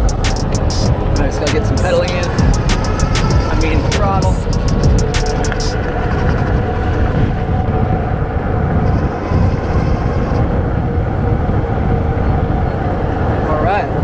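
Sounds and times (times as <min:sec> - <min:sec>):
tyre and road noise: 0:00.0 - 0:14.0
wind rushing over microphone: 0:00.0 - 0:14.0.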